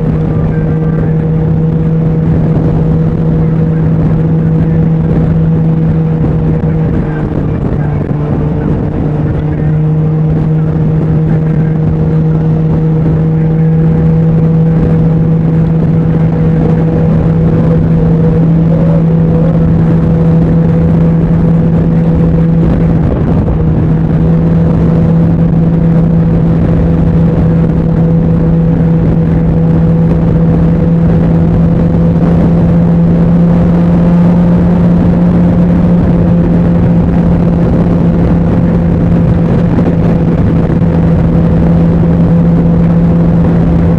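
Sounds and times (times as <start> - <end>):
engine drone: 0.0 - 43.9
steady rushing noise: 0.0 - 43.9.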